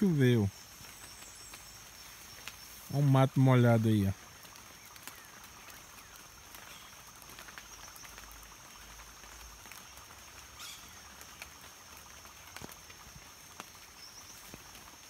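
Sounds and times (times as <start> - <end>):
drips pattering on wet foliage: 0.0 - 15.0.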